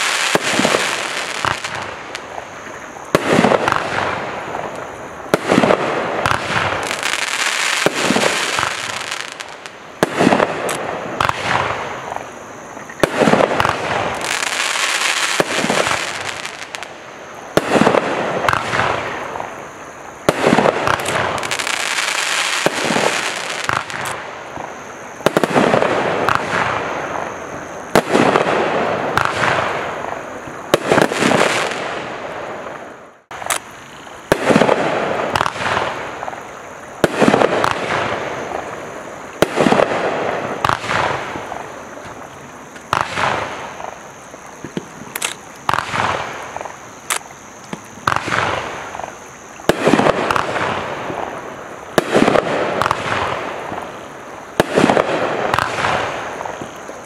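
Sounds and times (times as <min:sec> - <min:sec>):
fireworks sharp reports: 0:00.0 - 0:04.7, 0:05.3 - 0:12.3, 0:12.9 - 0:16.9, 0:17.5 - 0:36.4, 0:37.0 - 0:47.2, 0:48.0 - 0:51.3, 0:51.9 - 0:53.9, 0:54.5 - 0:56.8
fireworks hissing crackle: 0:00.0 - 0:57.0.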